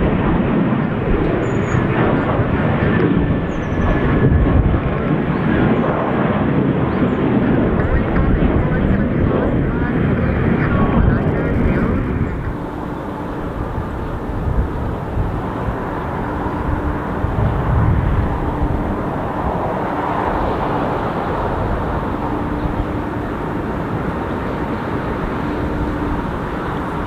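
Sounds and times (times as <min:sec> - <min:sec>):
jet airliner engines: 0:00.0 - 0:27.0.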